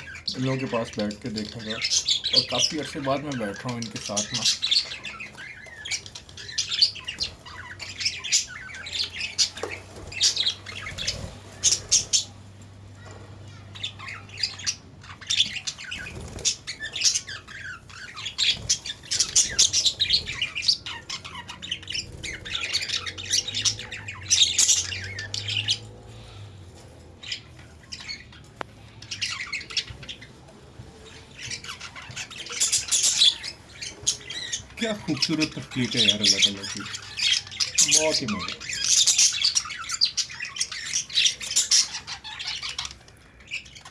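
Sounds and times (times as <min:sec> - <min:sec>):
parrots chattering and squawking: 0:00.0 - 0:43.9.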